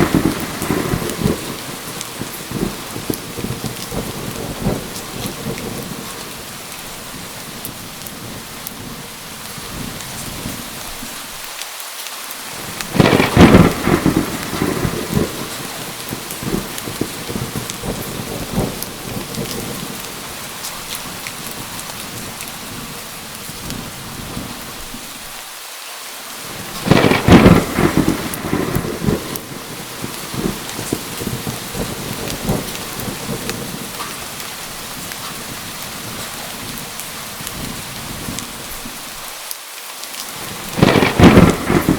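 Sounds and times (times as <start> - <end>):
thunder claps rumbling: 0.0 - 10.9, 12.5 - 25.0, 26.5 - 39.0, 40.4 - 41.9
heavy rain: 0.0 - 41.9.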